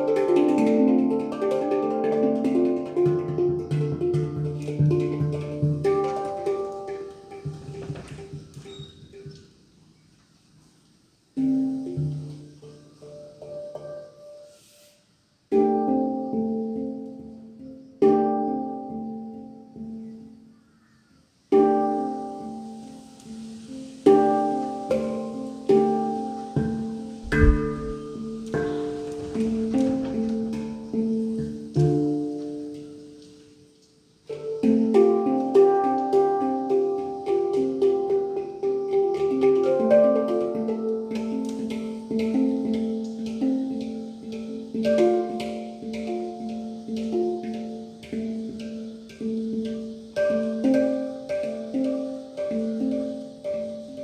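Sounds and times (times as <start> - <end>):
handpan notes ringing: 0.0 - 7.8, 15.5 - 20.3, 21.5 - 33.6, 34.3 - 54.0.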